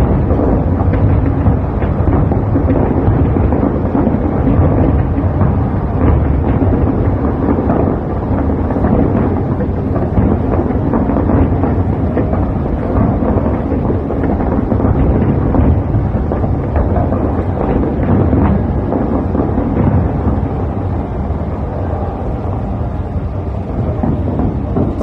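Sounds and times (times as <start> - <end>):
fireworks booming: 0.0 - 25.0
fireworks crackling bangs: 0.0 - 25.0.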